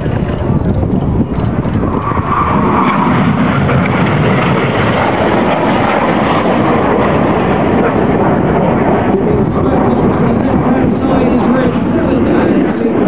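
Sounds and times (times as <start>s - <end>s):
high jet whine: 0.0s - 13.0s
jet engines roaring overhead: 0.0s - 13.0s.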